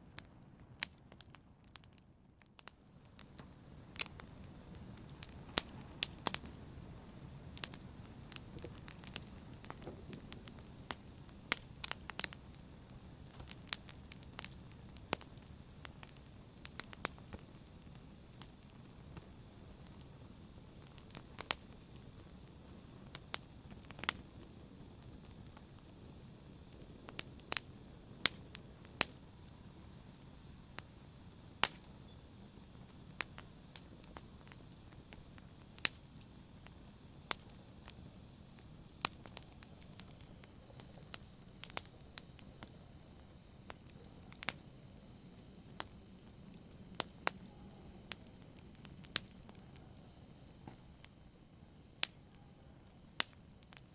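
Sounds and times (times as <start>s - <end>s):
wood fire crackling and popping: 0.1s - 53.9s
flames hissing: 2.6s - 53.9s.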